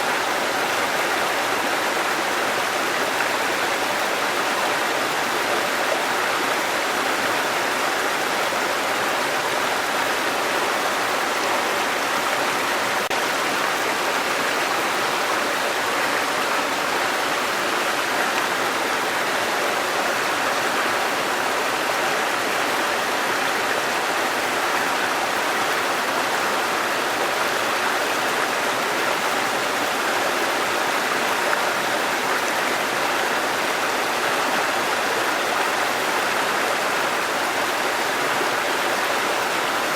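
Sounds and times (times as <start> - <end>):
waterfall and rushing stream: 0.0 - 39.9.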